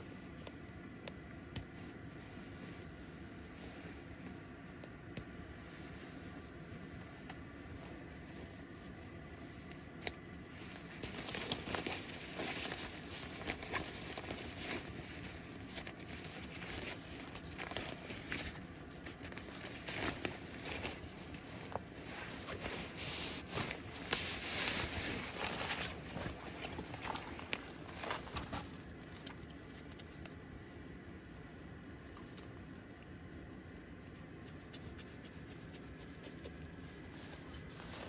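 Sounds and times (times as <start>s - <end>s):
rustling and crinkling: 1.6s - 33.0s, 33.6s - 38.0s.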